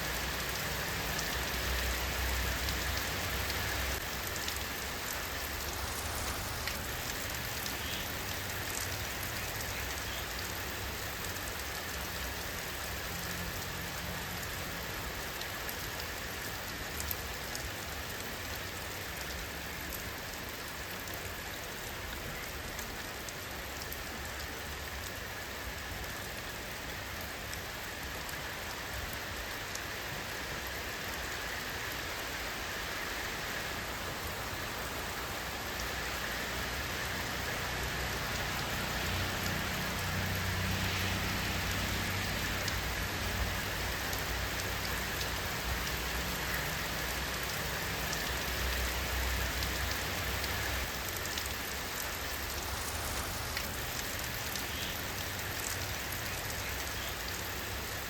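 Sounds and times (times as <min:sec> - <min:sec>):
raindrops ticking on a surface: 0:00.0 - 0:58.0
steady rain hissing: 0:00.0 - 0:58.0.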